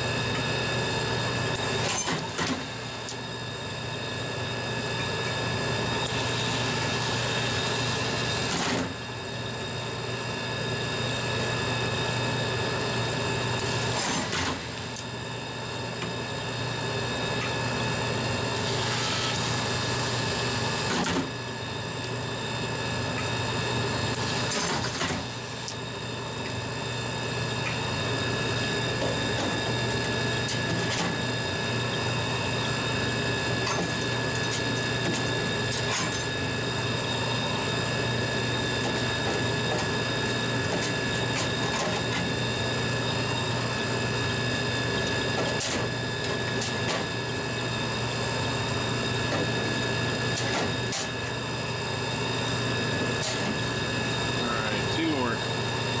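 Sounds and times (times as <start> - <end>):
vending machine hum and whine: 0.0 - 56.0.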